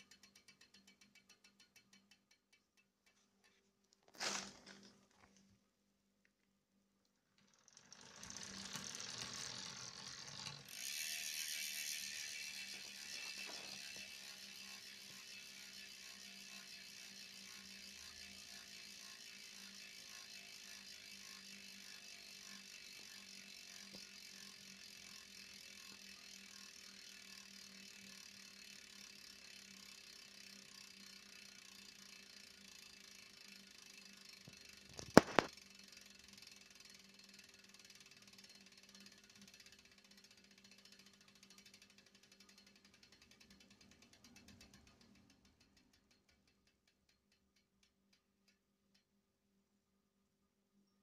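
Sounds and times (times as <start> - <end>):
freehub ticking buzz: 0.0 - 3.6, 7.2 - 49.1.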